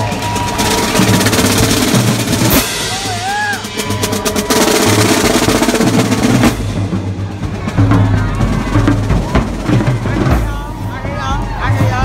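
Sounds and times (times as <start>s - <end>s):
snare drum rolls: 0.0s - 10.7s
bass drum beats: 0.0s - 12.0s.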